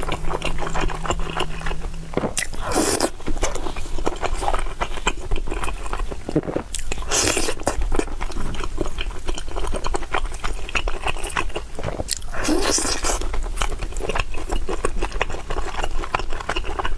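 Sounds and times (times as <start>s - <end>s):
chewing and biting food: 0.1s - 16.9s.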